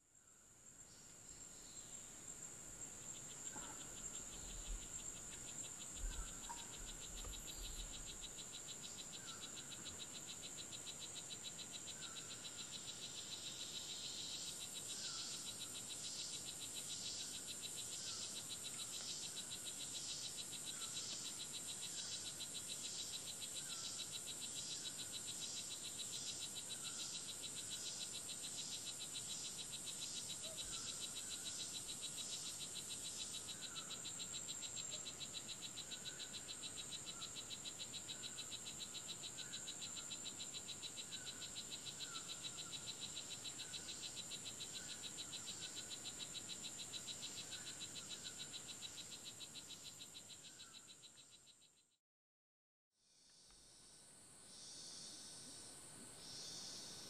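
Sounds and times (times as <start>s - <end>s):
insects trilling high pitch: 2.8s - 51.6s, 53.0s - 57.0s.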